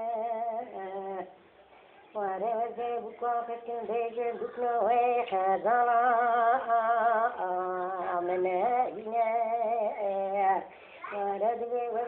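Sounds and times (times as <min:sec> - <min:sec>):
person singing slow melody: 0:00.0 - 0:12.0.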